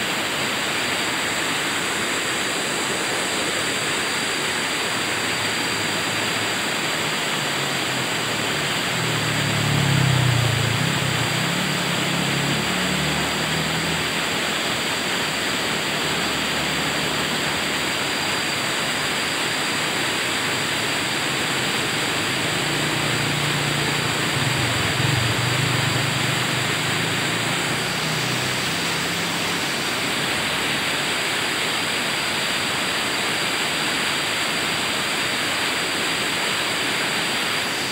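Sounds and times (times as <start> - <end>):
river rushing over rocks: 0.0 - 37.9.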